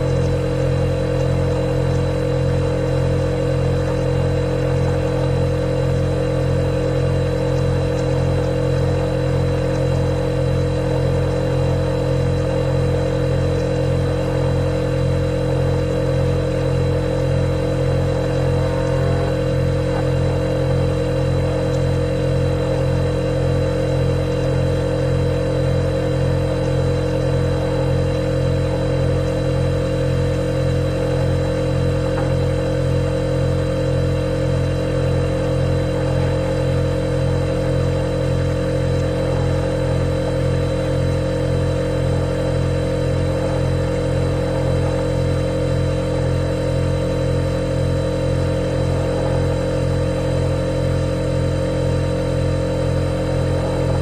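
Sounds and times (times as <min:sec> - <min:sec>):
refrigerator humming: 0:00.0 - 0:54.0.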